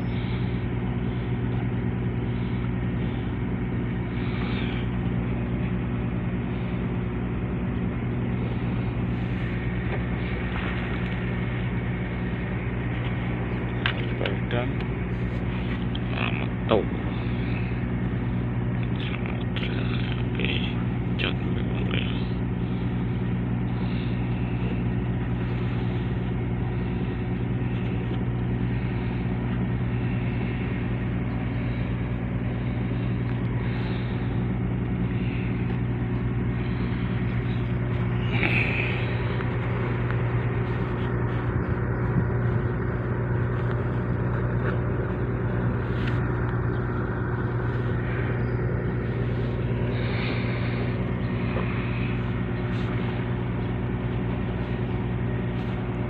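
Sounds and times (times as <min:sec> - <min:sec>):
large engine droning: 0:00.0 - 0:56.0.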